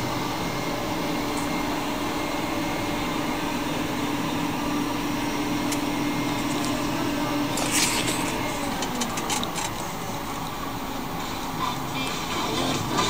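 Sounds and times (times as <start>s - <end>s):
constant hum: 0.0s - 13.0s
tractor and combine harvester drone: 0.0s - 13.0s.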